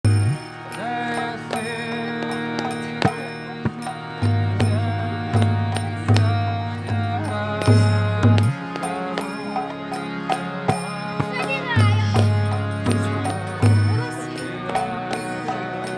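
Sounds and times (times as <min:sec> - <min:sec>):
held chord tones: 0:00.0 - 0:15.9
person singing: 0:00.3 - 0:15.9.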